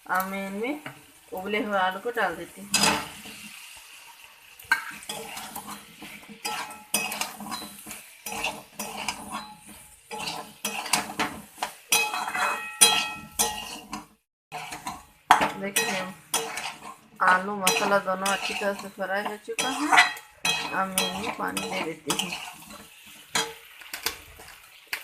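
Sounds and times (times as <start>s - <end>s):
light sizzle: 0.0s - 25.0s
spoon scraping a pan: 0.2s - 25.0s.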